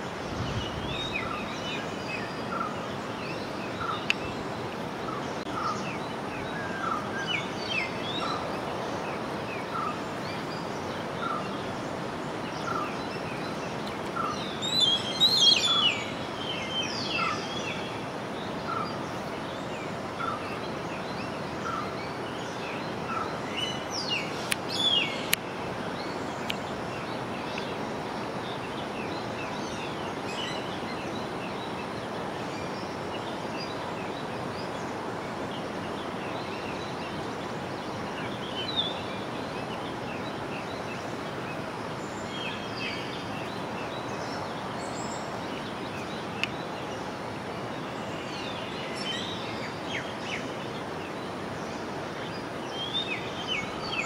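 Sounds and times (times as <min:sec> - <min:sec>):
birds chirping: 0:00.0 - 0:54.0
steady background noise: 0:00.0 - 0:54.0.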